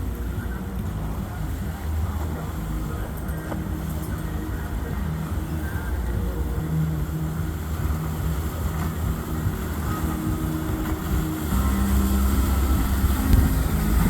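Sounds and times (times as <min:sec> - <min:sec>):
motorboat engines droning: 0:00.0 - 0:14.0.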